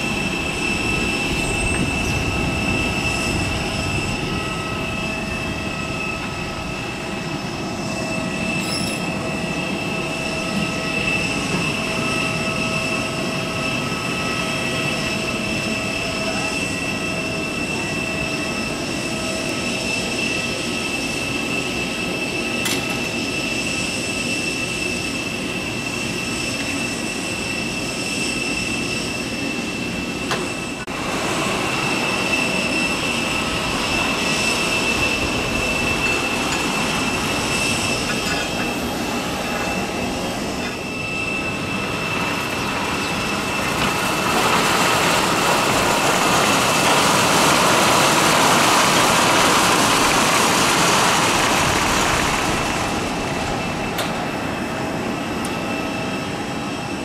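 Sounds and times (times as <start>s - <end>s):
aircraft machinery whining: 0.0s - 57.0s.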